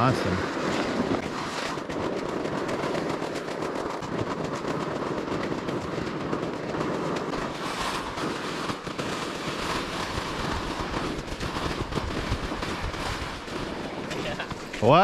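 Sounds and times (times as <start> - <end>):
continuous rattle and clatter: 0.0 - 15.0.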